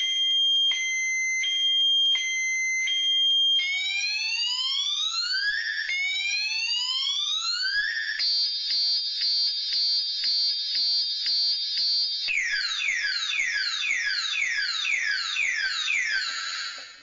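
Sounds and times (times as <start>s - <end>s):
car alarm siren: 0.0s - 17.0s.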